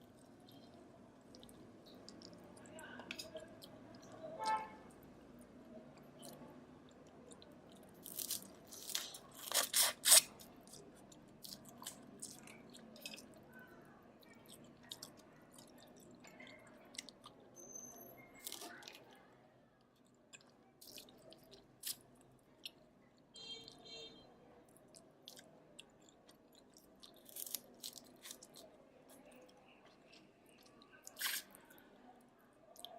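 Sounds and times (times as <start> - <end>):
chewing: 0.0 - 4.2, 5.9 - 17.5, 18.4 - 19.2, 19.8 - 23.2, 24.6 - 32.9.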